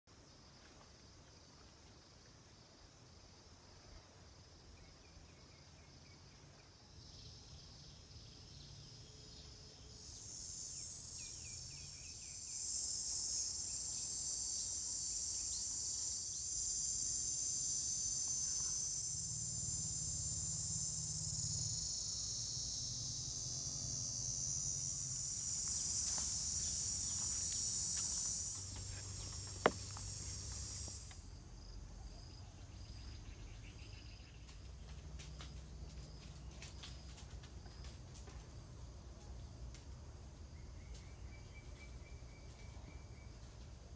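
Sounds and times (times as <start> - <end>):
insects buzzing: 0.2 - 43.9.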